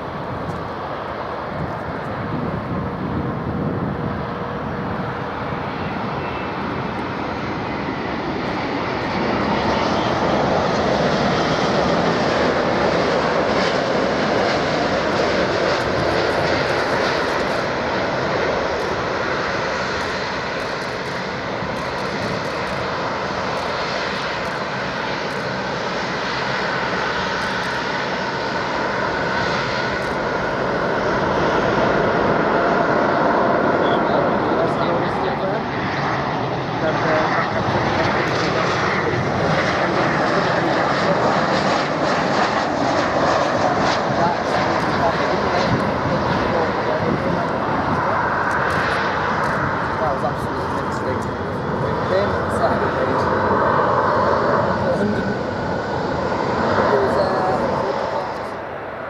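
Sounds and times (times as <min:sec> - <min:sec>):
jet airliner engines: 0:00.0 - 0:59.0.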